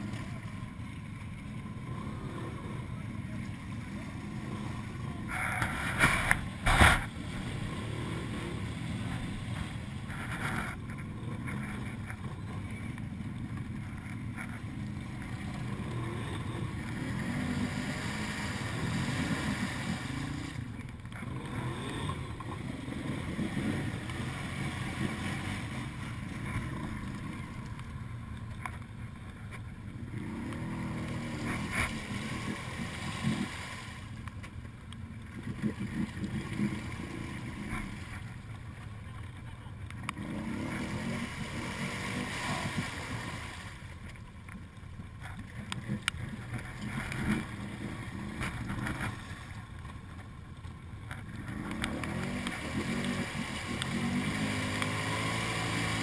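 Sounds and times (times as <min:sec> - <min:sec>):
quad engines revving: 0:00.0 - 0:28.8, 0:29.5 - 0:34.2, 0:35.4 - 0:38.3, 0:39.7 - 0:44.0, 0:51.1 - 0:56.0
quad churning through mud: 0:00.0 - 0:44.2, 0:45.0 - 0:56.0.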